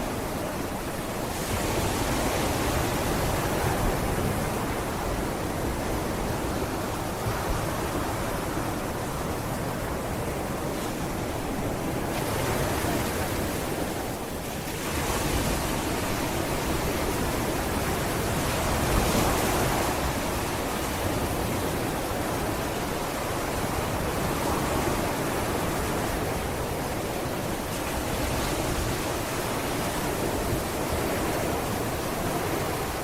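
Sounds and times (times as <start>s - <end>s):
waves breaking on a beach: 0.0s - 33.0s.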